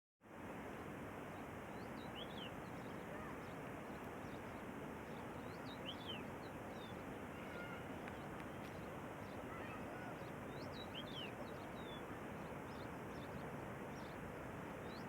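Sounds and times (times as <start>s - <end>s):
small birds chirping: 1.3s - 15.0s.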